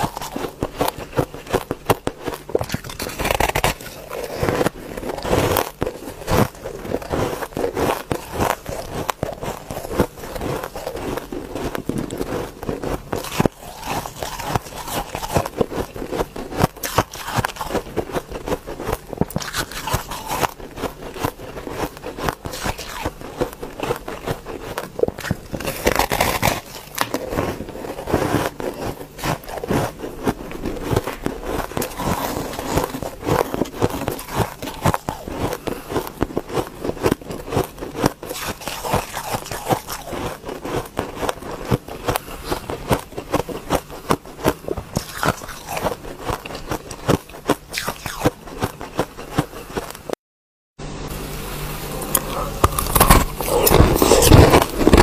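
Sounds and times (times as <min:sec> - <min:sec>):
crunching and chewing ice: 0:00.0 - 0:50.2, 0:52.0 - 0:55.0.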